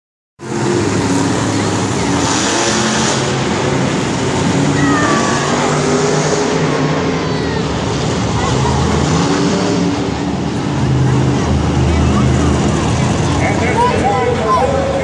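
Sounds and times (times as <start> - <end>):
monster truck engines revving: 0.4 - 15.0.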